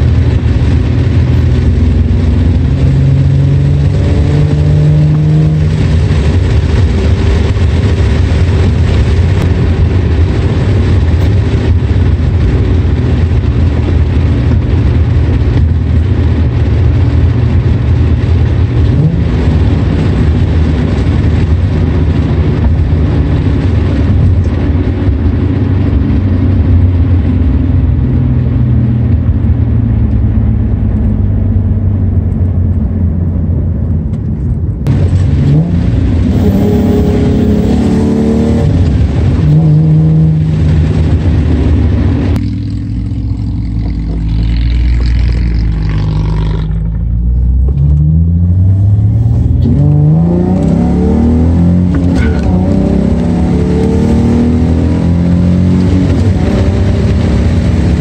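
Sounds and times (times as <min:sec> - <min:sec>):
car engine revving through gears: 0:00.0 - 0:32.6, 0:34.8 - 0:58.0
wind noise: 0:00.0 - 0:58.0.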